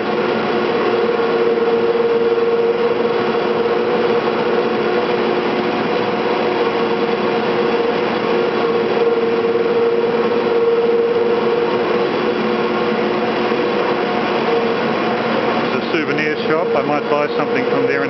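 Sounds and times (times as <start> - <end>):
droning hum: 0.0 - 18.0
winding machinery running: 0.0 - 18.0.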